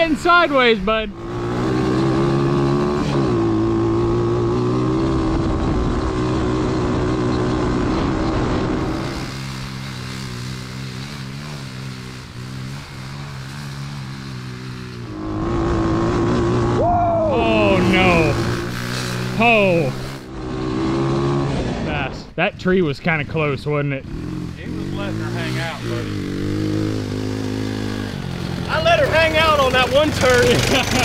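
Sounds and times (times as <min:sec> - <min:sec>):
go-kart engine at high revs: 0:00.0 - 0:22.2, 0:23.1 - 0:31.0.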